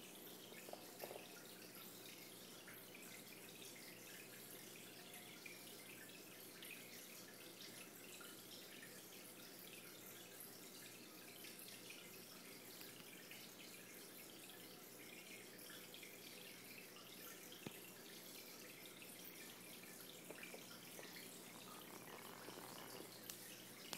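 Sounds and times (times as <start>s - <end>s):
water trickling and dripping: 0.0s - 23.9s.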